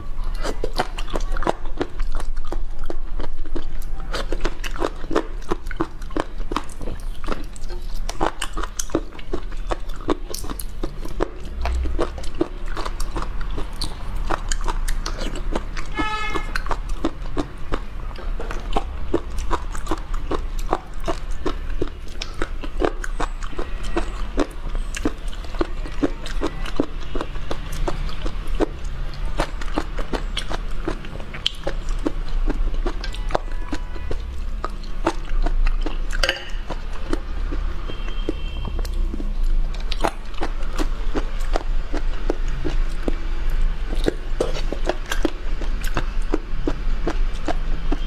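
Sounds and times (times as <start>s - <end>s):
wet mouth clicks and sucking: 0.0s - 48.0s.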